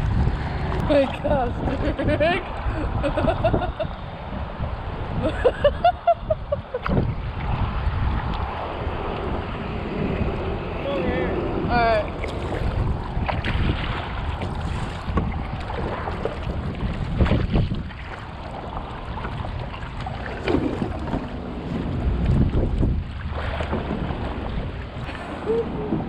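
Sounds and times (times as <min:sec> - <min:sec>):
water splashing against kayak: 0:00.0 - 0:26.0
wind buffeting microphone: 0:00.0 - 0:26.0.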